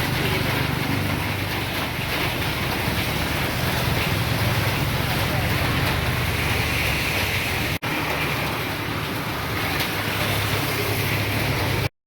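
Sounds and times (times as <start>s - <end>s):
heavy rain: 0.0s - 11.9s.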